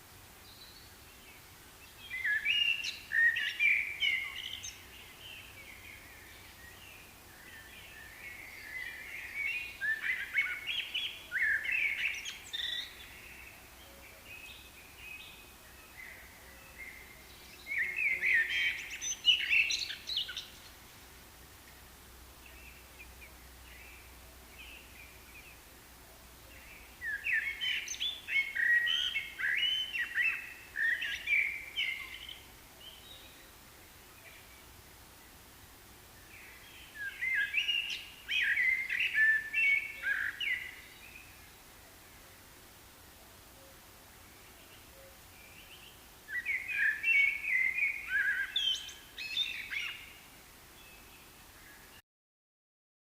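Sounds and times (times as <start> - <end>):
faint steady hum: 0.0 - 52.0
songbird singing: 0.0 - 52.0.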